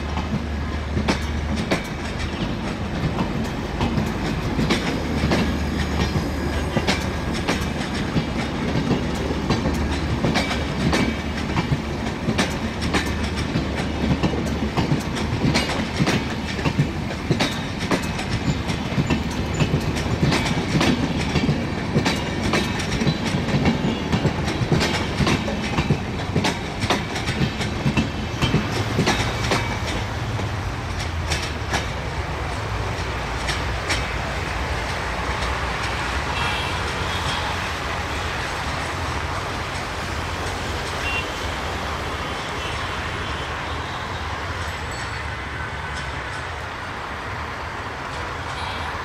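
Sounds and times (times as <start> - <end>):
train rumble: 0.0 - 49.0
train wheels clacking over rail joints: 0.0 - 49.0.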